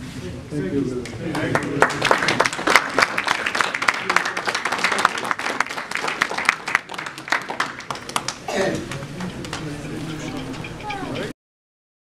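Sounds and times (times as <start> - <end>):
audience applauding: 1.3 - 11.3.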